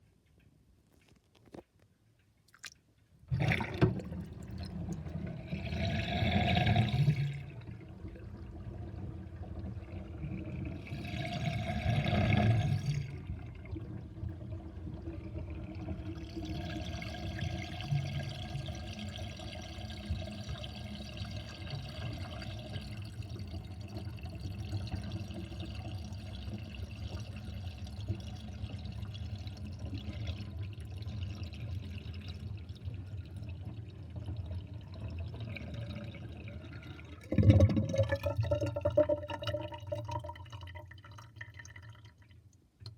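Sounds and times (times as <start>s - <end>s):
water gurgling down sink drain: 3.3s - 42.9s.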